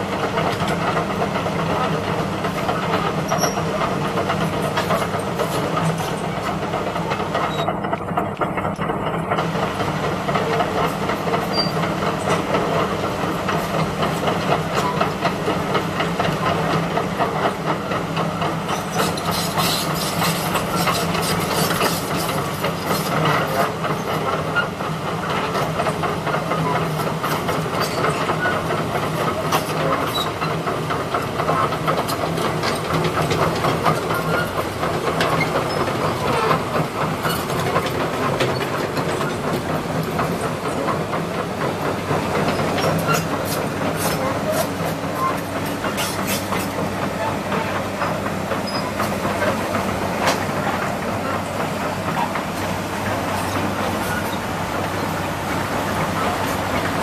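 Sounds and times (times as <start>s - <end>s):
diesel engine drone: 0.0s - 57.0s
steel tracks clanking: 0.0s - 57.0s.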